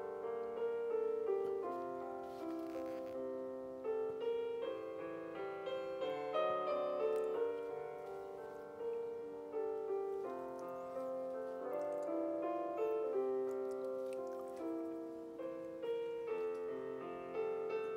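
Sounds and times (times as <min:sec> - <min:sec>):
piano music: 0:00.0 - 0:17.9.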